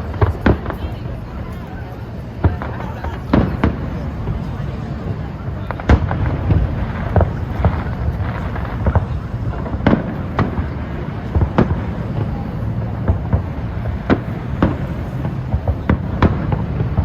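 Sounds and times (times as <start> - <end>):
fireworks bangs and cracks: 0.0 - 17.0
low rumble of crowd: 0.0 - 17.0.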